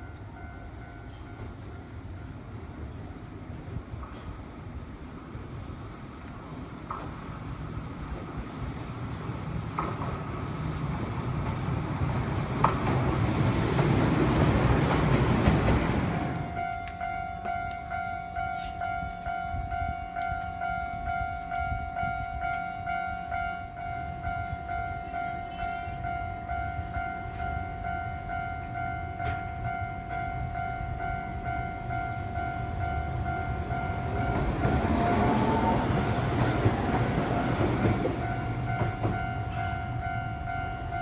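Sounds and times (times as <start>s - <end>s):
train wheel noise: 3.6s - 29.8s, 30.6s - 41.0s.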